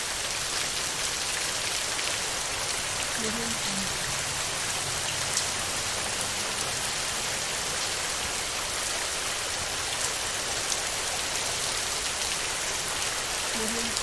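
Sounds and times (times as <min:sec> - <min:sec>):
rain on a tin roof: 0:00.0 - 0:14.0.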